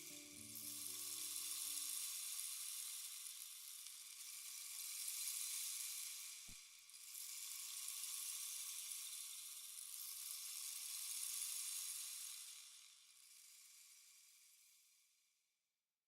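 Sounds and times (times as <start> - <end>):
faint high-pitched hiss: 0.0 - 15.7.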